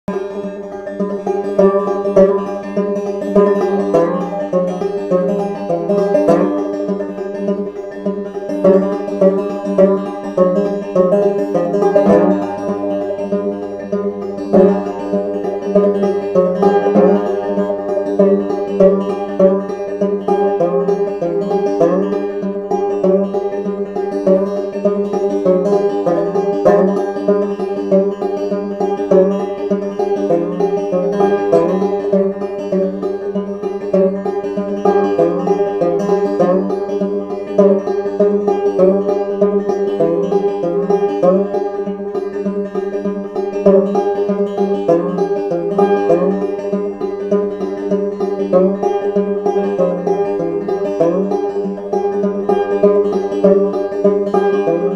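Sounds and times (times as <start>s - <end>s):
plucked-string background music: 0.0s - 54.9s.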